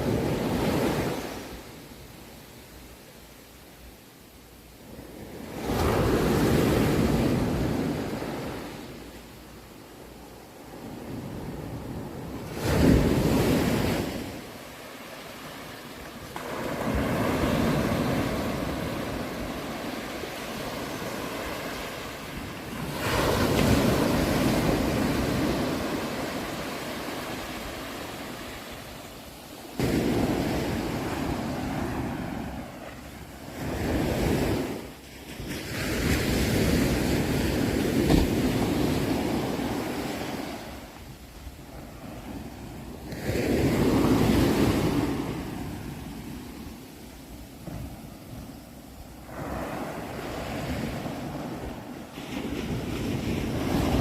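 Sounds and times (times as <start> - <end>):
sea waves breaking ashore: 0.0 - 3.8, 4.6 - 54.0.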